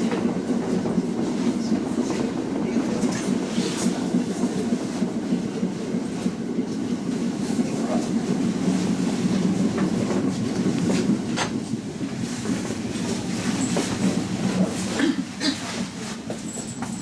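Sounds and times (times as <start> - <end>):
sharp clicks of train wheels: 0.0 - 15.0, 15.8 - 17.0
train rumbling on tracks: 0.0 - 17.0.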